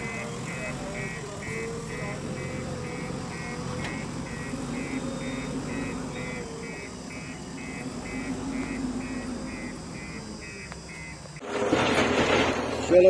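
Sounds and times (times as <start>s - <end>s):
reversing alarm beeping: 0.0s - 12.0s
diesel engine running: 0.0s - 13.0s.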